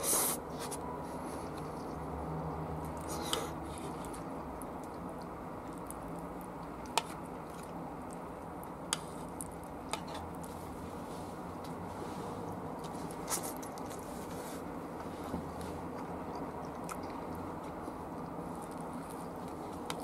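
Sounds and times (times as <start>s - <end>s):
soft chewing: 0.0s - 20.0s
steady low hum: 0.0s - 20.0s.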